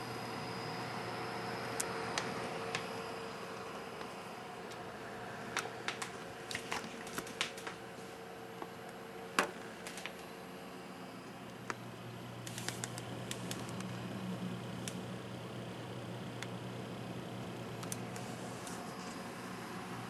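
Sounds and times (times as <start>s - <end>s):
computer cooling fans humming: 0.0s - 20.0s.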